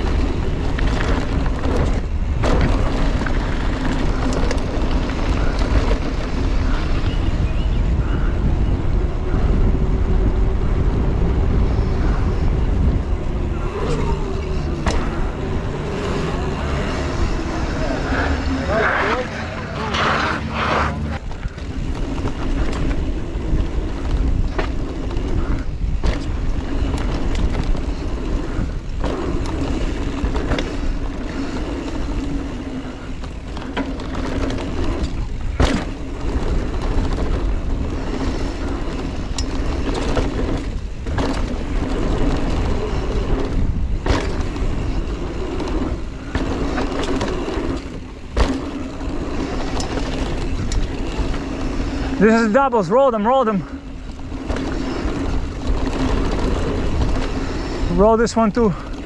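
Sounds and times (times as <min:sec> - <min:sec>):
wind on microphone: 0:00.0 - 0:52.8, 0:53.6 - 0:59.0
bike rattling over bumps: 0:00.0 - 0:59.0
tyre noise on dirt: 0:00.0 - 0:59.0.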